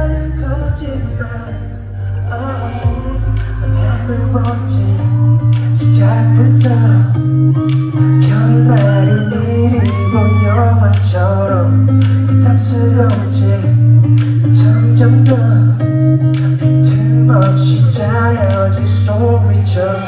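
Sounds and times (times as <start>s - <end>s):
loud amplified backing music: 0.0s - 20.0s
man singing into a microphone: 0.0s - 20.0s.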